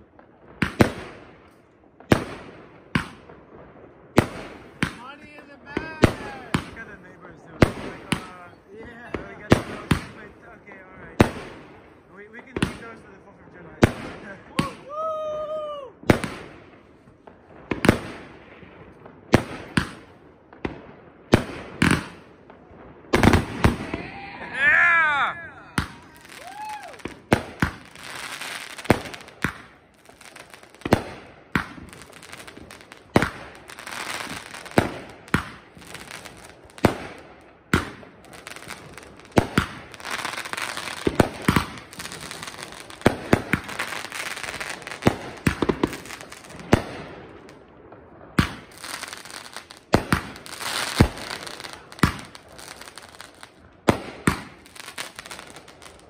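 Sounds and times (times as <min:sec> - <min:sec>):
crackling of firework stars: 0:00.0 - 0:56.0
fireworks bangs: 0:00.0 - 0:56.0.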